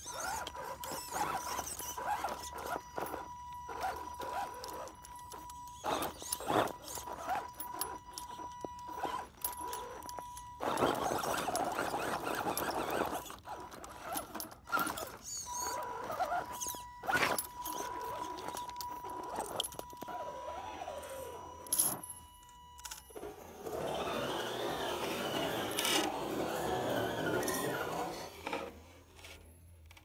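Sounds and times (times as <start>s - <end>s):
gritty scraping: 0.0s - 22.0s, 23.2s - 30.0s
electric motor whine: 0.0s - 28.9s.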